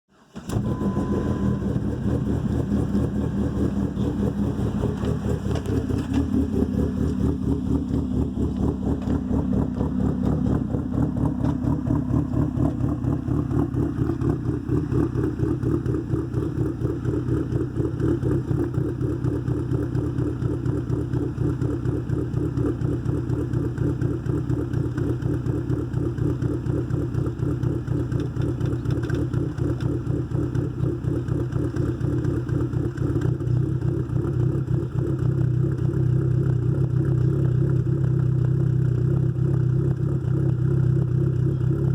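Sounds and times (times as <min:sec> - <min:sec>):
car engine choppy idle: 0:00.4 - 0:41.9.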